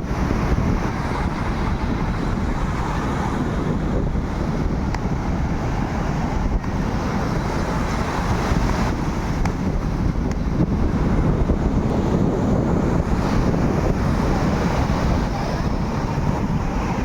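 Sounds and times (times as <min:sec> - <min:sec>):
surf on a beach: 0:00.0 - 0:17.0
wind buffeting microphone: 0:00.0 - 0:17.0.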